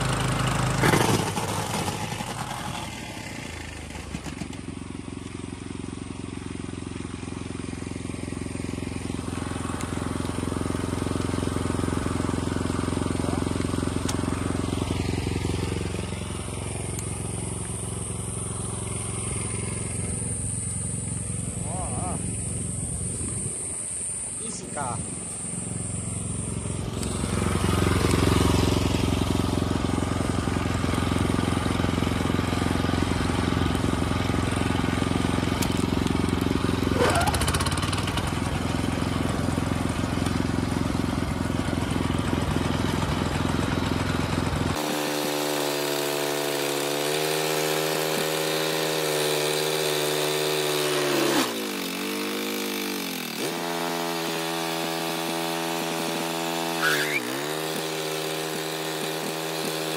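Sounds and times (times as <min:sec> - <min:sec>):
flail rotor cutting grass: 0:00.0 - 0:05.4, 0:06.6 - 0:59.9
mower engine drone: 0:00.0 - 0:59.9.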